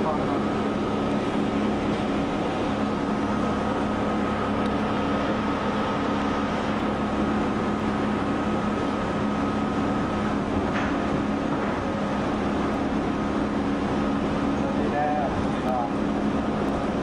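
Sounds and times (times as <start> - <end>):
high whine: 0.0 - 17.0
subway train running: 0.0 - 17.0.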